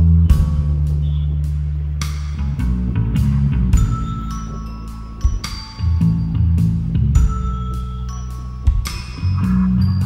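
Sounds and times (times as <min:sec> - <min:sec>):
music with deep bass and drums: 0:00.0 - 0:10.0.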